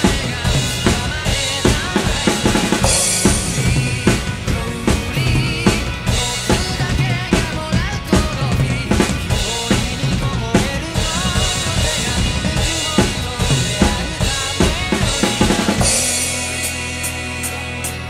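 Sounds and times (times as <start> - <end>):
drum kit playing: 0.0 - 18.0
rock band recording: 0.0 - 18.0.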